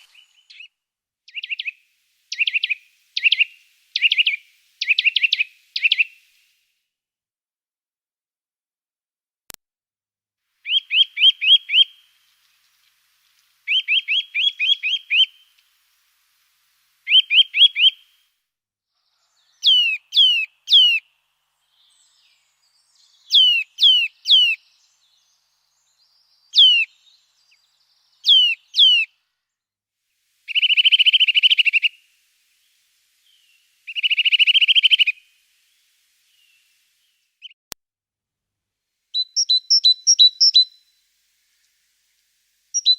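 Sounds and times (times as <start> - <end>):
songbird singing: 0.0 - 6.5, 10.6 - 18.3, 19.0 - 29.7, 30.3 - 37.7, 39.1 - 42.9.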